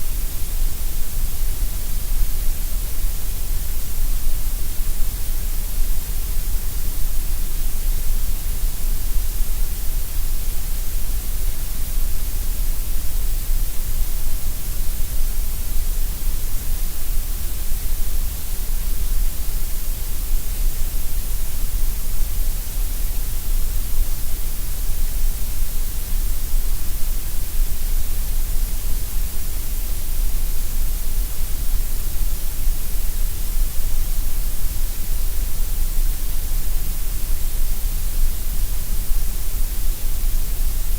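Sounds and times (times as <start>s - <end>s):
synthetic gray noise hiss: 0.0s - 40.9s.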